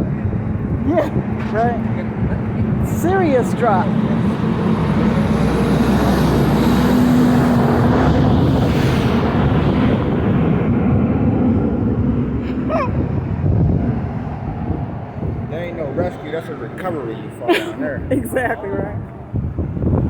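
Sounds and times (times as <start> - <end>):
wind rumble: 0.0 - 17.3, 17.9 - 20.0
low engine hum: 0.0 - 20.0
road traffic passing: 0.0 - 20.0.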